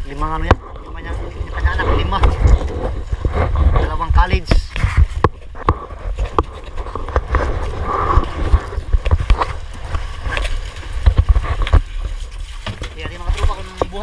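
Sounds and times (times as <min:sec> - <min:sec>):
water against boat hull: 0:00.0 - 0:14.0
wind noise on microphone: 0:00.0 - 0:14.0.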